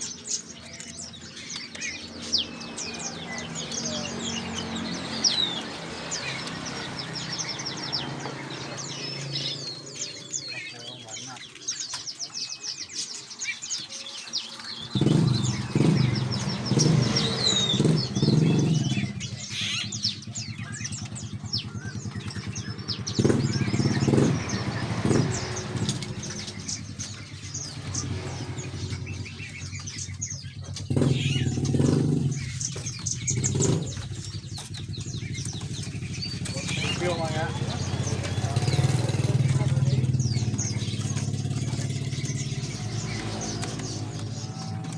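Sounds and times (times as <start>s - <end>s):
small engine running: 0.0s - 44.9s
songbirds chirping: 0.0s - 44.9s.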